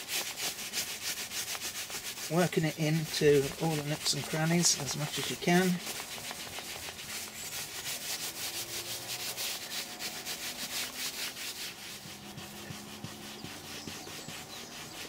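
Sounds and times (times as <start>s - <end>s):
cloth scrubbing leather seat: 0.0s - 15.0s.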